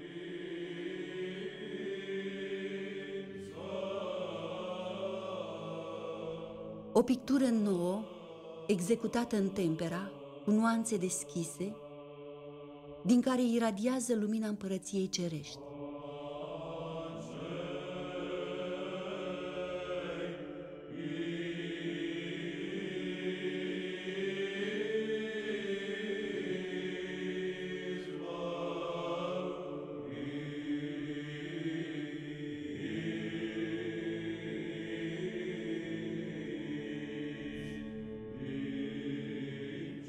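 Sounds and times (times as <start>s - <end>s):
choir chanting: 0.0s - 40.0s.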